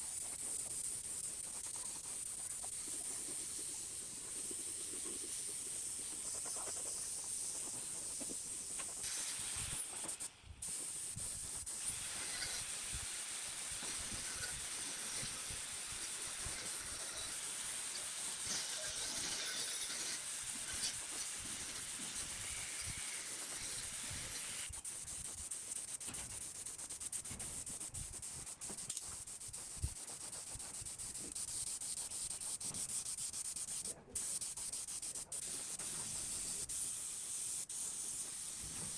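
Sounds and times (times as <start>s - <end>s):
metal being sanded: 0.0s - 38.9s.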